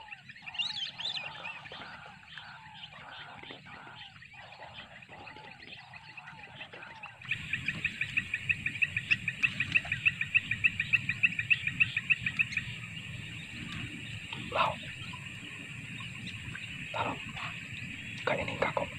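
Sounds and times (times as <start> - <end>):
ducks whistling: 0.0 - 18.9
low steady background noise: 0.0 - 18.9.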